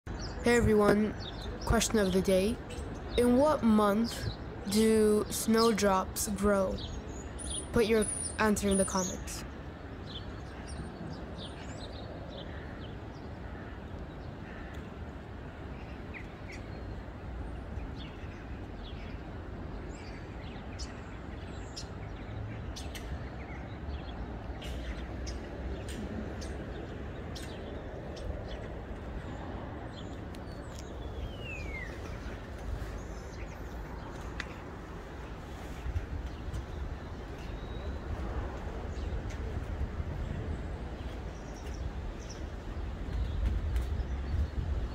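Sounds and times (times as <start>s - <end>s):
birds chirping: 0.1s - 39.5s.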